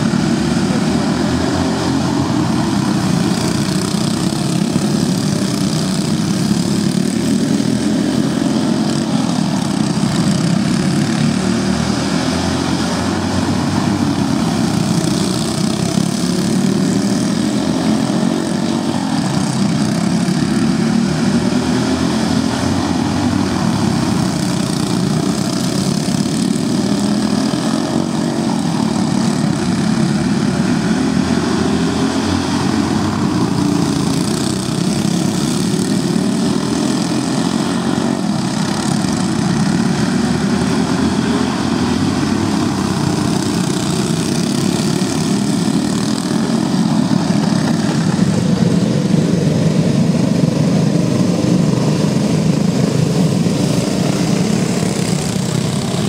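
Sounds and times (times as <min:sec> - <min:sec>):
go-kart engines droning: 0:00.0 - 0:56.0.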